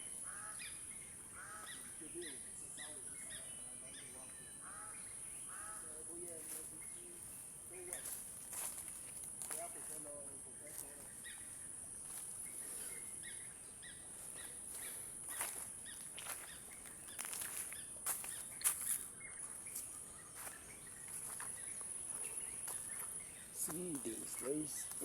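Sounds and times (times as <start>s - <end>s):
bird chirps: 0.0s - 10.0s, 10.6s - 25.0s.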